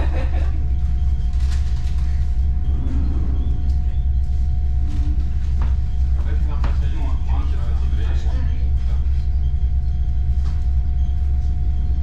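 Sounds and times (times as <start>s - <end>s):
thin steady hum: 0.0s - 12.0s
train rumbling on rails: 0.0s - 12.0s.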